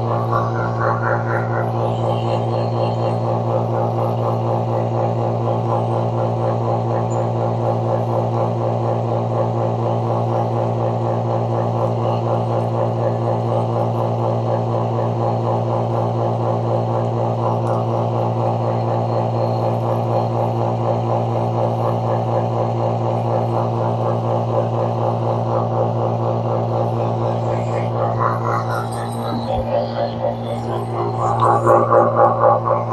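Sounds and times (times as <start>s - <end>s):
vacuum pump humming: 0.0s - 32.9s.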